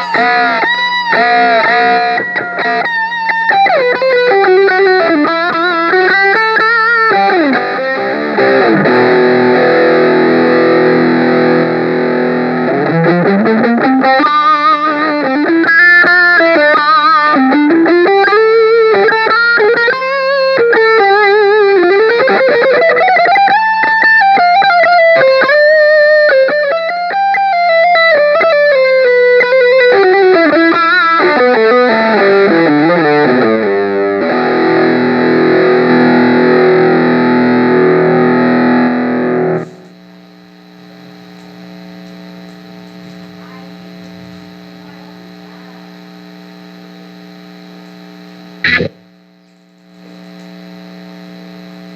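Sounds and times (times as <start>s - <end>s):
electric guitar with effects: 0.0s - 51.9s.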